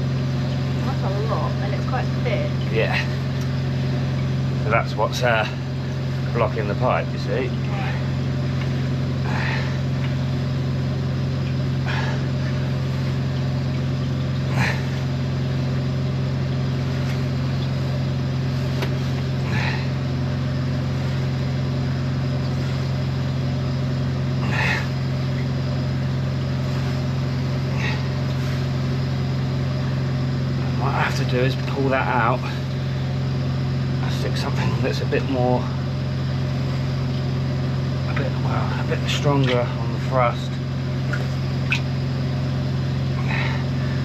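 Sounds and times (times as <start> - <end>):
engine and pump running: 0.0 - 44.0.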